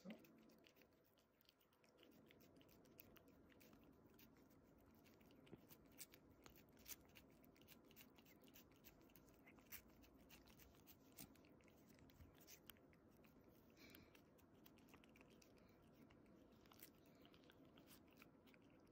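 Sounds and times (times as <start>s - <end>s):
cat tongue licking: 0.0s - 18.9s.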